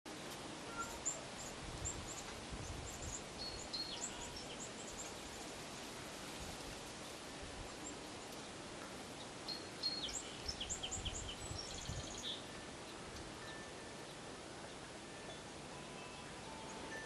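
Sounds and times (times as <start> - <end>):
soft steady hiss: 0.1 - 17.0
small birds chirping: 0.2 - 17.0.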